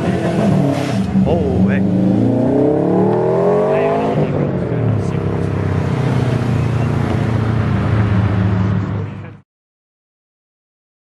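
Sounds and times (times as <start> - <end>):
car engine rumbling driving off: 0.0 - 9.4.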